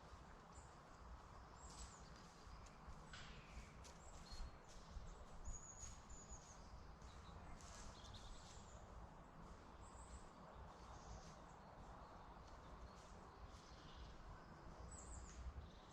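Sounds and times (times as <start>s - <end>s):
small birds chirping: 0.4s - 9.0s, 9.6s - 15.9s.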